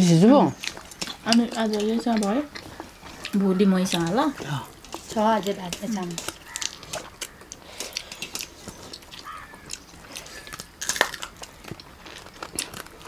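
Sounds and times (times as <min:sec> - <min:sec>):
people chewing with smacking lips: 0:00.0 - 0:13.0.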